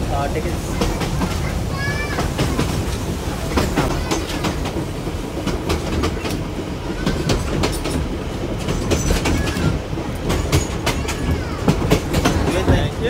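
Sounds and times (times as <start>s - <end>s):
train rumbling on track: 0.0s - 13.0s
wheels clicking over rail joints: 0.0s - 13.0s.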